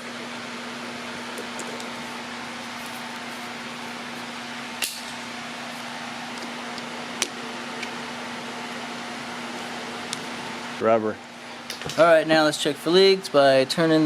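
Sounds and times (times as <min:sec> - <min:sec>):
steady mechanical hum and hiss: 0:00.0 - 0:14.0.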